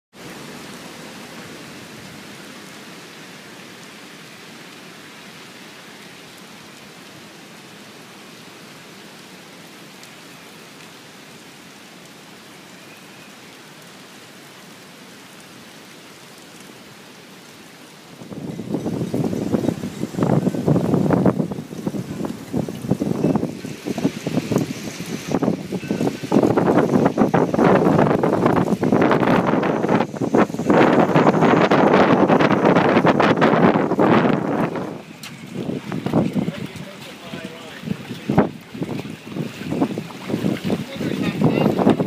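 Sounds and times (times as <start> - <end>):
storm rain hissing: 0.2 - 42.0.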